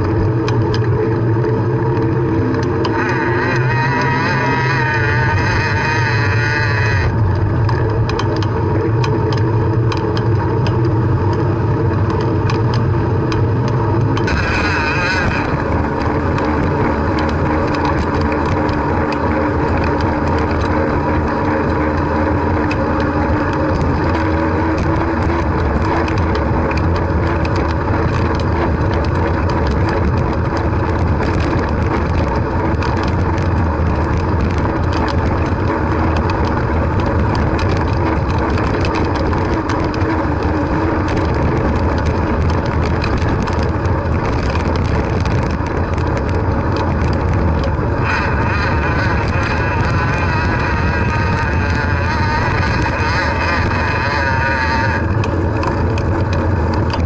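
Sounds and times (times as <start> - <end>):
bicycle rattling clicks: 0.0 - 57.0
wind rumbling on microphone: 0.0 - 57.0.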